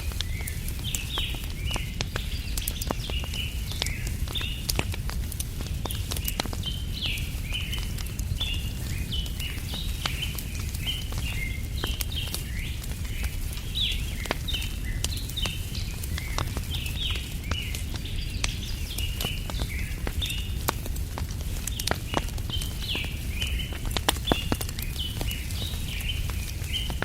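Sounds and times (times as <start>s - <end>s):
small birds chirping: 0.0s - 27.0s
wood fire crackling: 0.0s - 27.0s.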